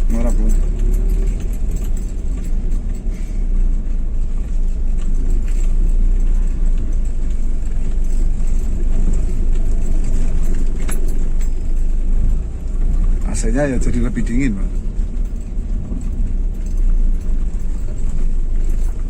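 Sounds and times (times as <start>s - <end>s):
car engine and road rumble: 0.0s - 19.0s
light rattles: 0.0s - 19.0s.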